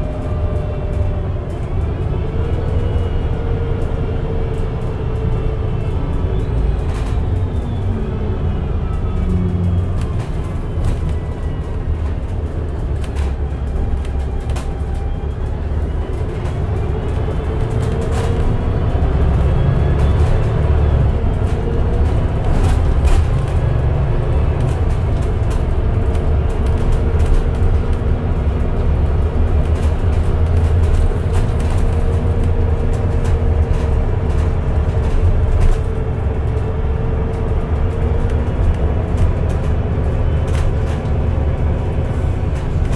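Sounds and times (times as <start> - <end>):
bus engine rumble: 0.0 - 42.9.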